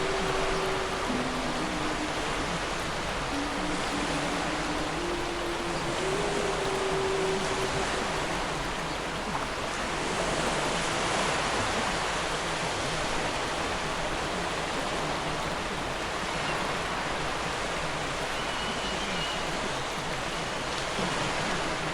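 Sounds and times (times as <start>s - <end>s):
water rushing: 0.0s - 21.9s.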